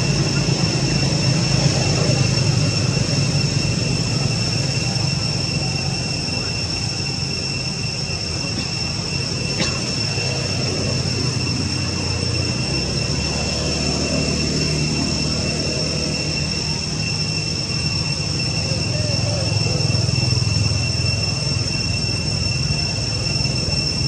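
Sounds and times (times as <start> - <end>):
high-pitched whine: 0.0 - 24.0.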